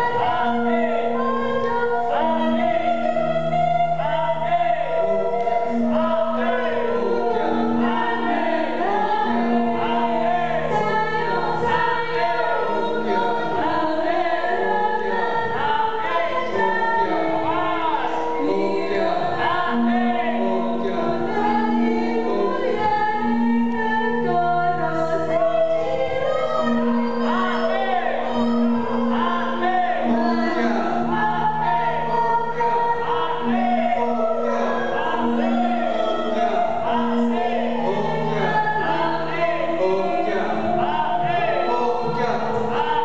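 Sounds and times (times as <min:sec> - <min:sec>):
dance music: 0:00.0 - 0:43.0
group of voices singing: 0:00.0 - 0:43.0.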